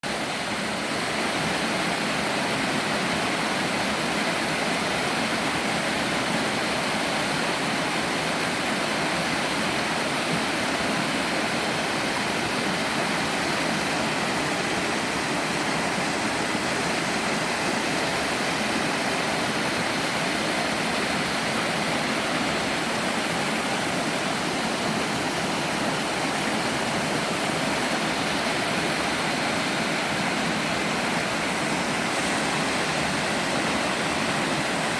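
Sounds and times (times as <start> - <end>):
water rushing over rock: 0.0 - 34.9.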